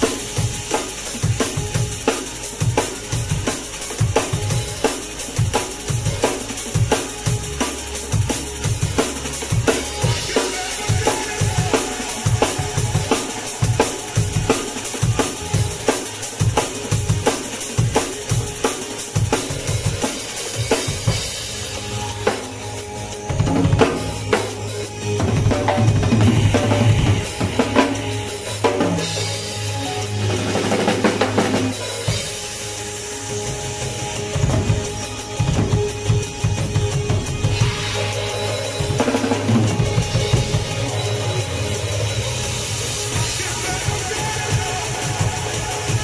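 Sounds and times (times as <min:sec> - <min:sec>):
acoustic drum kit: 0:00.0 - 0:46.0
cymbals washing: 0:00.0 - 0:46.0
drum and bass backing track: 0:00.0 - 0:46.0.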